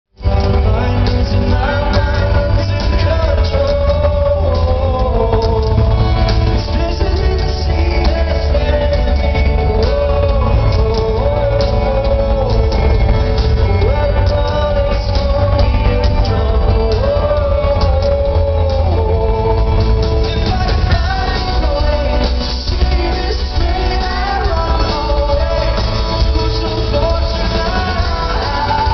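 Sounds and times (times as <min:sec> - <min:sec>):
drums: 0:00.0 - 0:28.9
heavy bass: 0:00.1 - 0:28.9
rock band playing: 0:00.1 - 0:28.9
man singing: 0:00.2 - 0:28.9.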